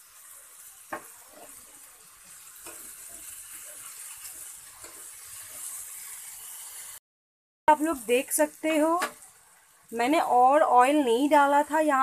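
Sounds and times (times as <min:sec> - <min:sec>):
chicken sizzling in oil: 0:00.0 - 0:07.0, 0:07.7 - 0:12.0.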